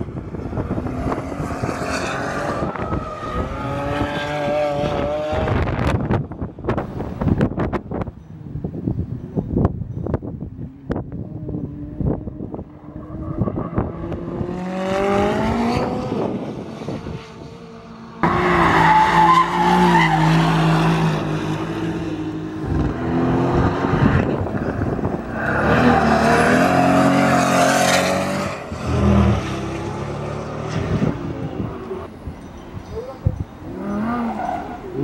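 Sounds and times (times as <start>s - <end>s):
car engines revving hard: 0.0s - 6.9s, 10.9s - 32.3s, 32.9s - 35.0s.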